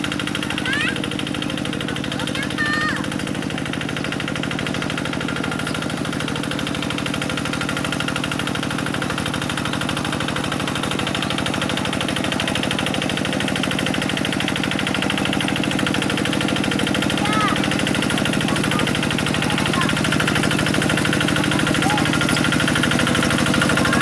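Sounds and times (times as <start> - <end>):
diesel engine chugging: 0.0 - 24.0.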